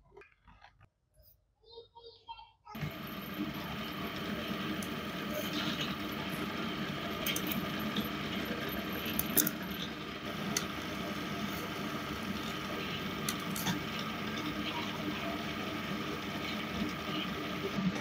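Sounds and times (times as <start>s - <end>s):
drill press boring metal: 2.8s - 18.0s.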